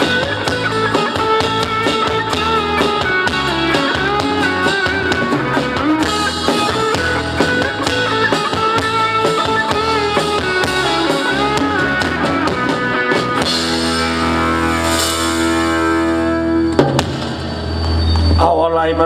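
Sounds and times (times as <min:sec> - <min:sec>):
drums: 0:00.0 - 0:19.0
electric guitar: 0:00.0 - 0:19.0.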